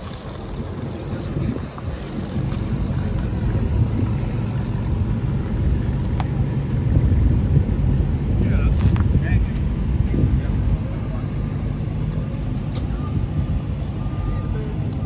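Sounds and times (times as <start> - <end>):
car engine idling: 0.0 - 15.0
wind buffeting microphone: 0.0 - 15.0.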